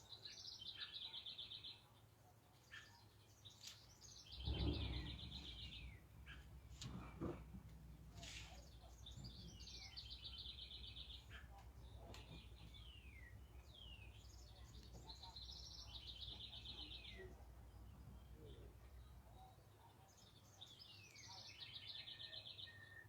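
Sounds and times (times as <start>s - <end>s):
trilled bird song: 0.0s - 1.9s, 2.5s - 7.1s, 8.2s - 23.0s.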